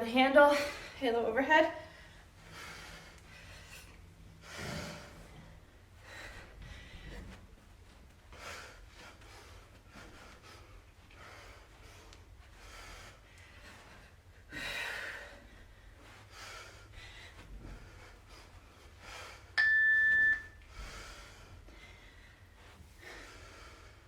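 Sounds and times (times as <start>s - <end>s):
person breathing hard: 1.8s - 7.5s, 8.3s - 19.6s, 20.7s - 24.0s.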